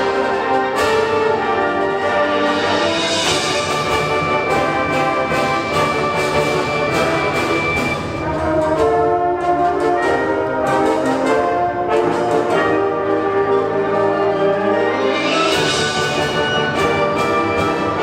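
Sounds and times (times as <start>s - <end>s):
symphonic band sustained chords: 0.0s - 18.0s.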